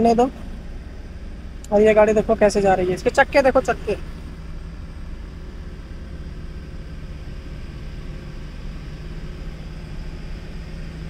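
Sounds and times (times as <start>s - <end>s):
diesel truck engine rumble: 0.0s - 11.0s
steady hum: 0.0s - 11.0s.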